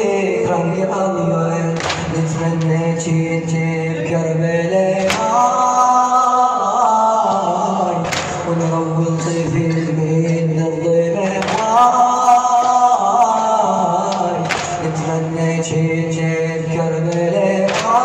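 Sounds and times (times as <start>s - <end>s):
men chanting in layered voices: 0.0s - 18.0s.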